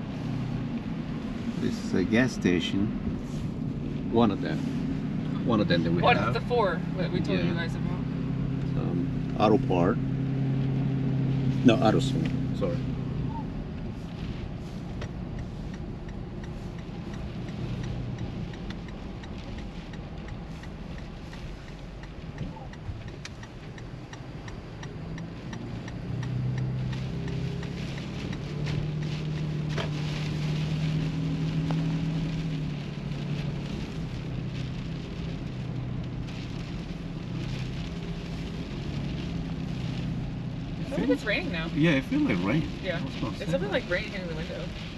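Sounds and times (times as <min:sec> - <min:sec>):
engine and road hum: 0:00.0 - 0:44.9
rain and snow hitting car: 0:00.0 - 0:44.9.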